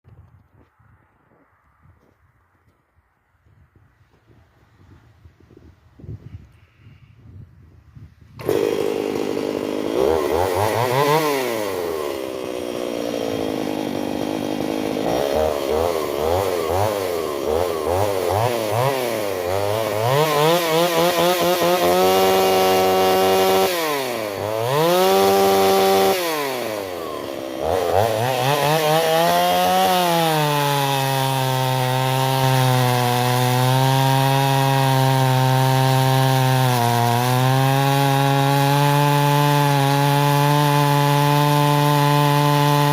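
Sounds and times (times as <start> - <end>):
chainsaw revving and cutting wood: 8.4 - 42.9.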